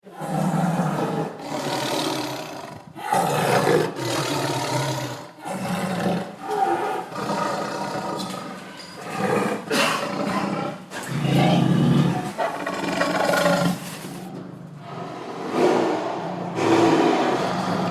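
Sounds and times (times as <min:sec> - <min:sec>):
tiger growling and roaring: 0:00.0 - 0:17.9.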